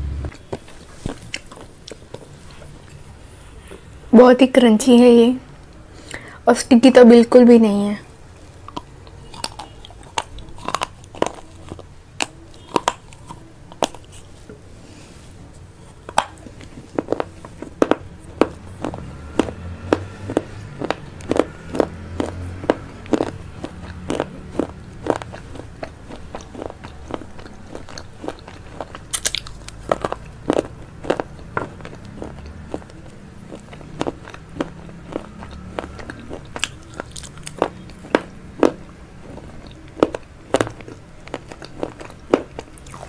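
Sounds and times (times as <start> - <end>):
person chewing noodles: 0.3 - 4.0, 8.4 - 14.4, 15.7 - 43.0.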